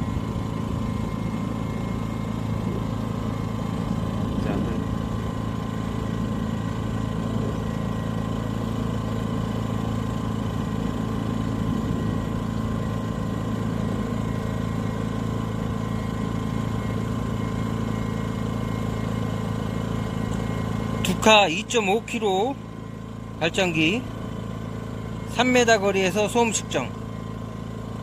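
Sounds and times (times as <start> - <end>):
generator engine humming: 0.0 - 28.0.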